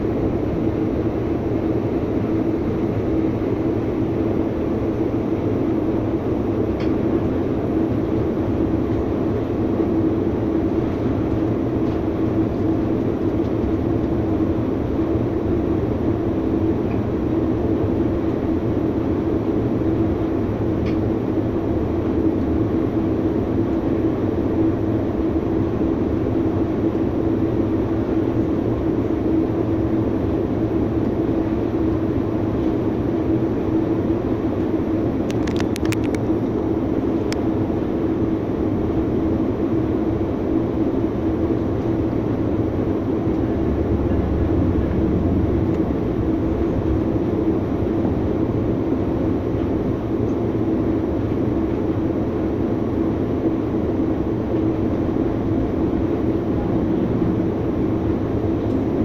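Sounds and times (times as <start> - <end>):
constant hum: 0.0 - 59.0
train running on track: 0.0 - 59.0.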